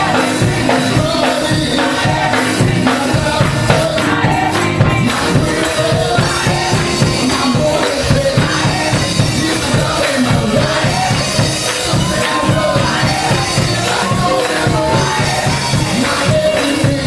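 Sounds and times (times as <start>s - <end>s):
church band: 0.0s - 17.0s
drums steady beat: 0.0s - 17.0s
gospel choir singing: 0.0s - 17.0s.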